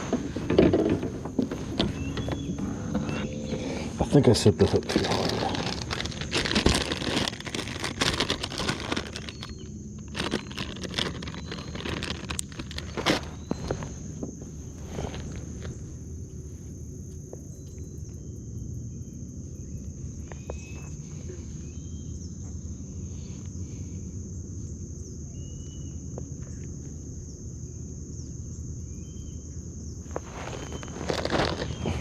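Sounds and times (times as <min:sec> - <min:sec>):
crickets and cicadas chorus: 0:00.0 - 0:32.0
short insect chirps: 0:01.6 - 0:32.0.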